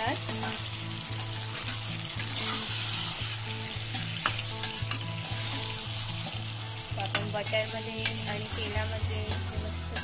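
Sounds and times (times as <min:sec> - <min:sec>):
chicken sizzling in oil: 0:00.0 - 0:10.0
metal spatula scraping pan: 0:00.3 - 0:10.0.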